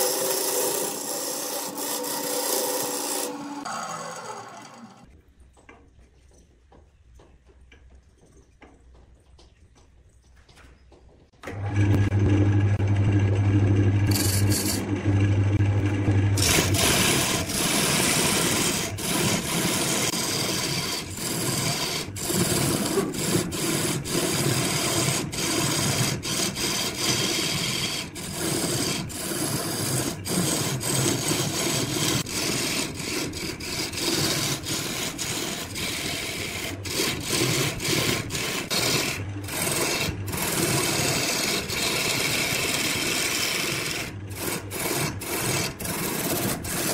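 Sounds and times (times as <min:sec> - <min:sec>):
lathe motor humming: 0:00.0 - 0:05.1, 0:11.5 - 0:46.9
tool scraping spinning wood: 0:00.0 - 0:05.2, 0:10.8 - 0:46.9.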